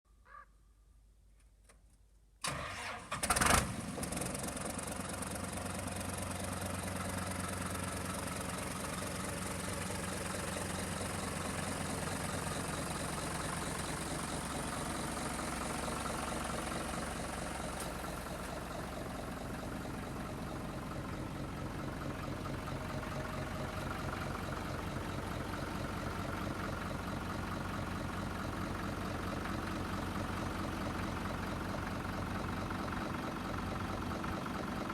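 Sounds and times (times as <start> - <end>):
tractor diesel engine starting: 2.4 - 34.9
tractor engine idling: 2.4 - 34.9.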